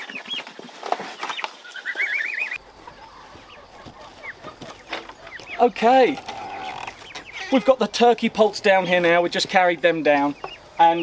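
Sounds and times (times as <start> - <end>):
turkey poults peeping: 0.0 - 11.0.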